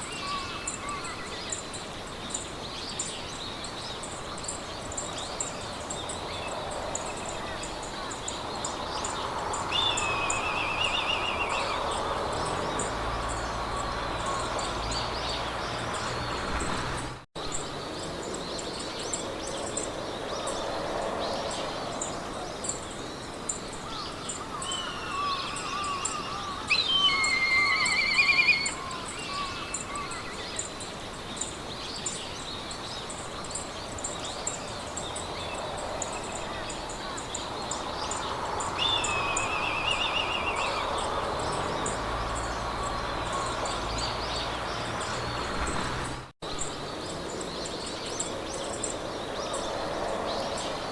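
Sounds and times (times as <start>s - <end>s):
songbirds singing: 0.0s - 50.9s
wind through grass: 0.0s - 50.9s.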